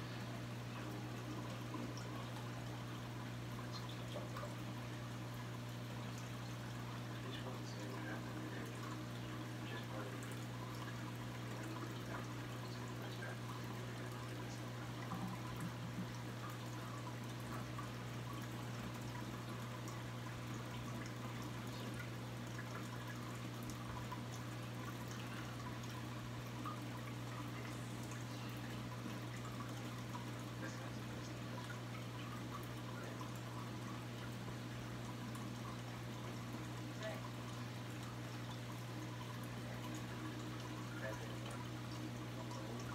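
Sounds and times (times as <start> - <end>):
water trickling and pouring: 0.0 - 42.9.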